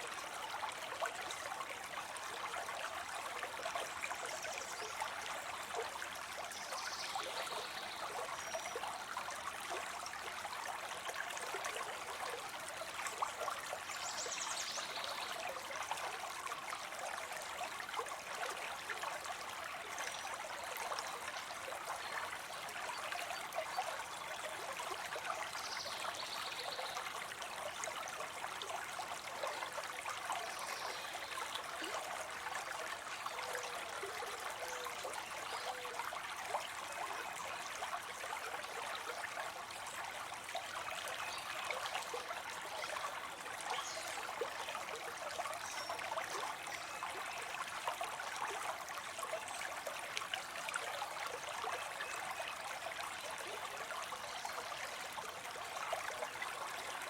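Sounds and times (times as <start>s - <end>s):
water trickling into a pond: 0.0s - 57.0s.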